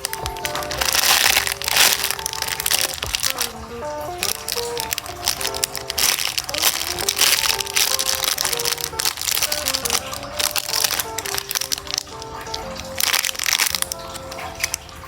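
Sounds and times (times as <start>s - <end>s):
light background music: 0.0s - 15.0s
squishy toys crinkling: 0.0s - 15.0s.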